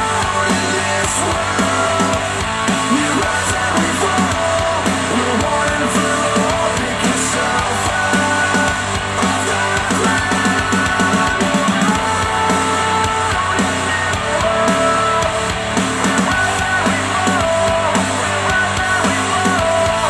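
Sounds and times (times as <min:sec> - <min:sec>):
loud rock music with guitar: 0:00.0 - 0:20.0.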